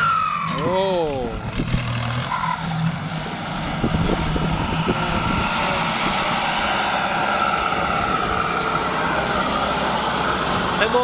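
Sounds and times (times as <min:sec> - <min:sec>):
tractor diesel engine running: 0:00.0 - 0:11.0
turbocharger whine: 0:00.0 - 0:11.0.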